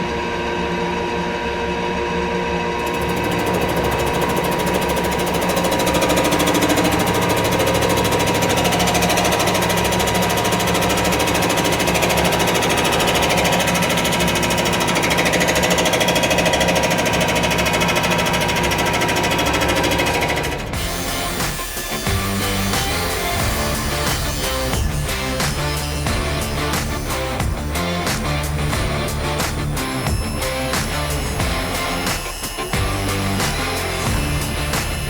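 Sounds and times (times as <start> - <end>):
machine spindle whine: 0.0 - 35.0
cutter buzzing through metal: 2.8 - 35.0.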